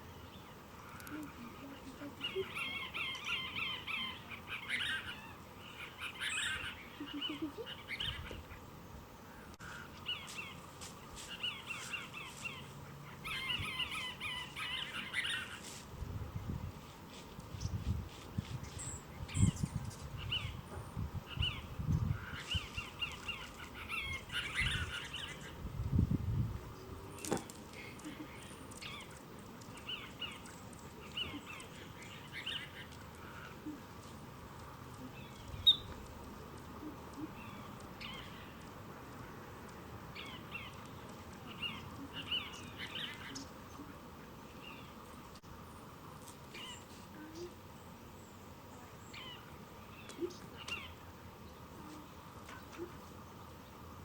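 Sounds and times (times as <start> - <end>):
wild birds chirping: 0.0 - 15.8, 17.6 - 54.0.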